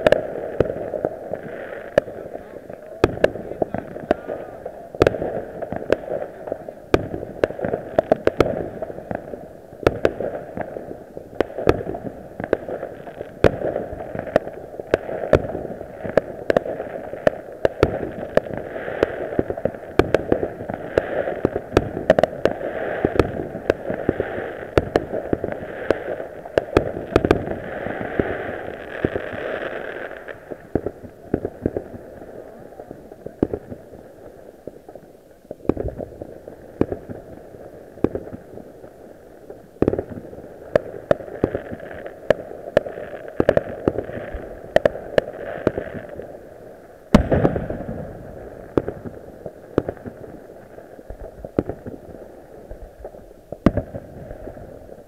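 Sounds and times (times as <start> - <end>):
distant fireworks rumble: 0.0 - 55.0
fireworks bangs and crackling: 0.0 - 55.0.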